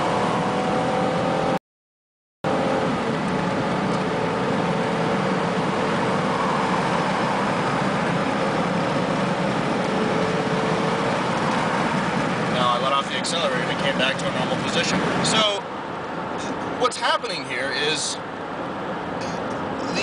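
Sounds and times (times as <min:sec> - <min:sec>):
car road noise in cabin: 0:00.0 - 0:01.6, 0:02.5 - 0:20.0.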